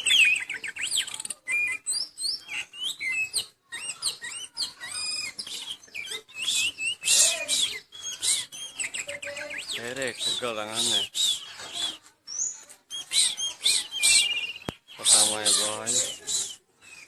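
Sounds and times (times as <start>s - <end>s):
songbird whistled song: 0.0s - 17.0s.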